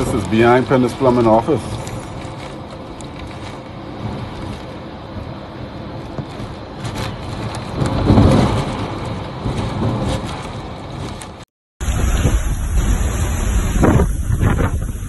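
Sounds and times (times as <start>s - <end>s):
hurricane wind: 0.0s - 15.0s
rain blowing: 0.0s - 15.0s.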